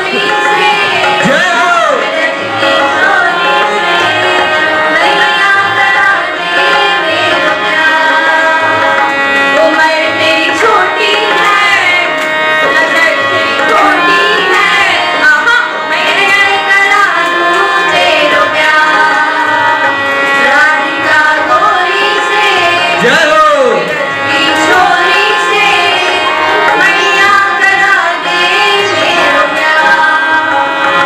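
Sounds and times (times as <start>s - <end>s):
girls singing together: 0.0s - 23.0s, 24.1s - 31.0s
steady held accompaniment: 0.0s - 31.0s
tabla: 0.0s - 31.0s.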